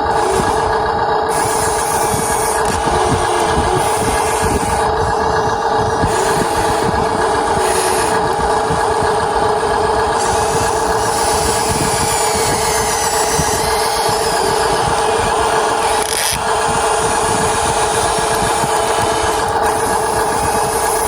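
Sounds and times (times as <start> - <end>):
rough rattle: 0.0 - 21.0
toy excavator motor whine: 0.0 - 21.0.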